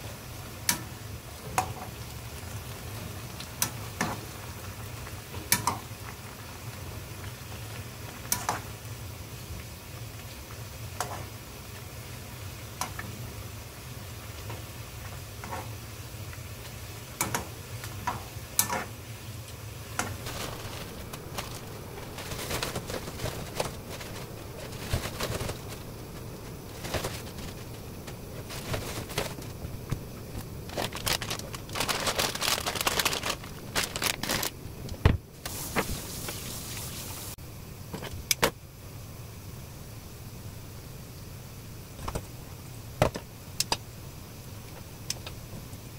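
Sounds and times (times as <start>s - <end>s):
crackling in a pan: 0.0s - 38.4s, 39.8s - 45.9s
steady low hum: 0.0s - 45.9s.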